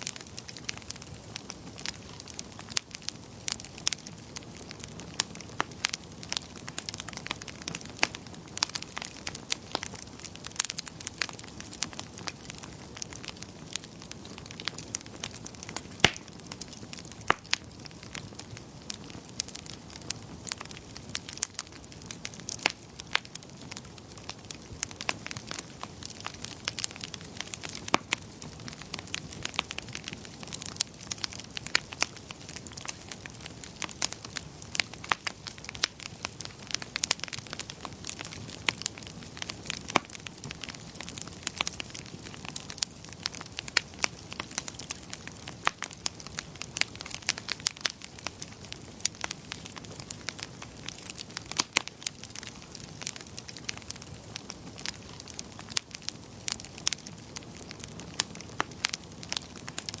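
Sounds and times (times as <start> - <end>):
soft steady hiss: 0.0 - 60.0
wood fire crackling: 0.0 - 60.0.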